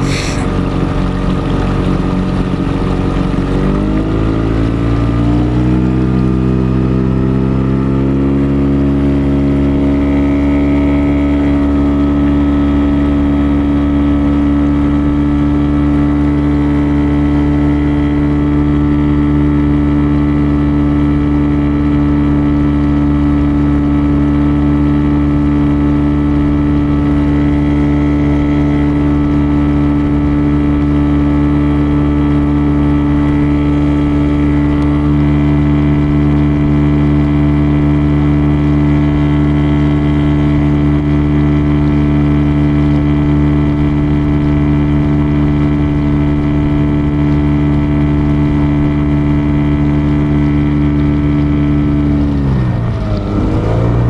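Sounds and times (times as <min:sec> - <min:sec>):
motor engine droning: 0:00.0 - 0:54.0.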